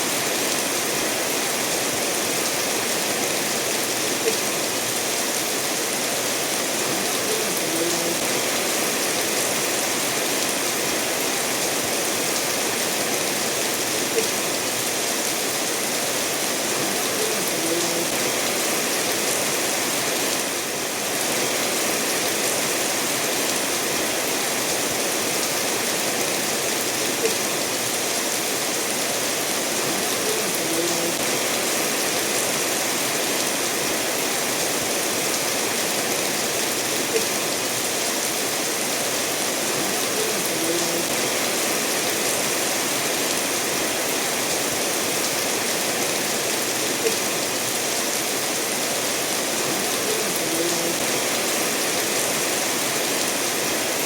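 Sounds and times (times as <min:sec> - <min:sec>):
steady rain falling: 0:00.0 - 0:54.0
stream running over stones: 0:00.0 - 0:54.0.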